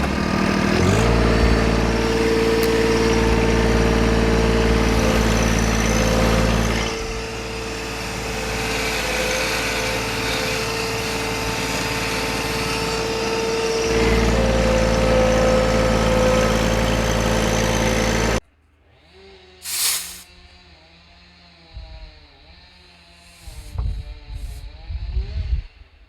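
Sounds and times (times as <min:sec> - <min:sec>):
engine running: 0:00.0 - 0:24.8.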